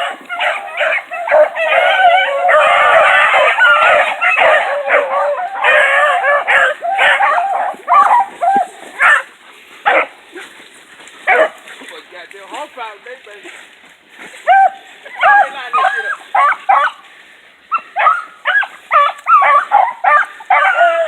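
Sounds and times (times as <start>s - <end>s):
hounds baying: 0.0s - 10.5s, 11.2s - 11.7s, 14.4s - 17.0s, 17.7s - 21.0s.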